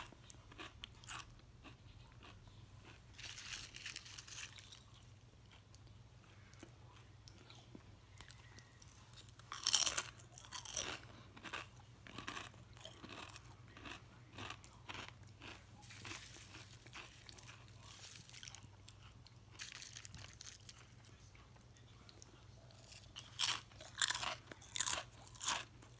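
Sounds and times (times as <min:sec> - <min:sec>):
chips being crunched and chewed: 0:00.0 - 0:21.3, 0:22.0 - 0:25.9.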